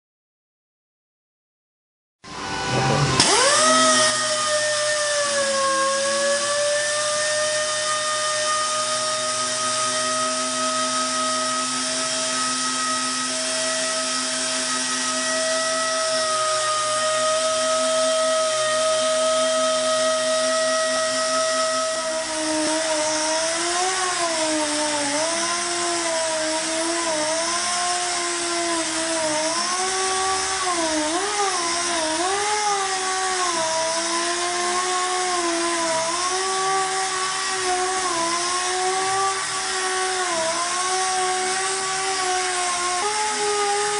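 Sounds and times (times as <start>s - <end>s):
air sander whining: 2.3s - 43.9s.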